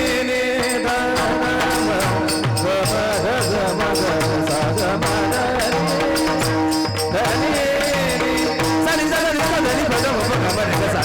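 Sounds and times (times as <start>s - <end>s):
hand cymbals: 0.0s - 11.0s
person singing: 0.0s - 11.0s.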